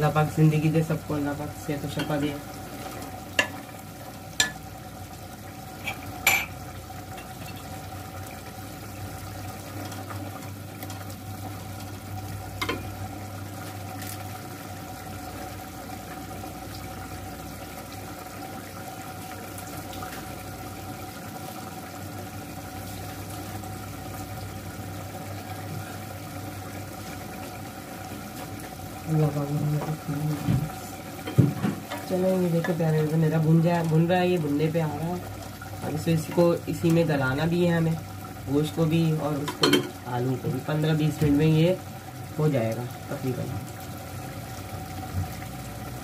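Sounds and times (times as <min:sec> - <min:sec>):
curry simmering in a pot: 0:00.0 - 0:46.0.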